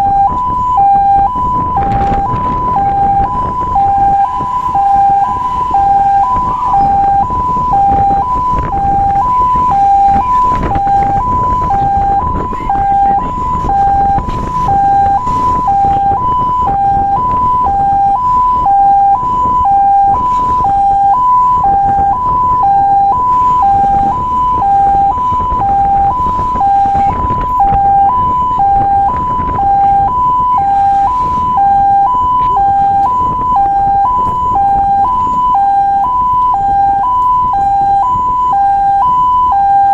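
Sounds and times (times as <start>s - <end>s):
engine and road rumble: 0.0s - 39.9s
fire truck two-tone siren: 0.0s - 39.9s.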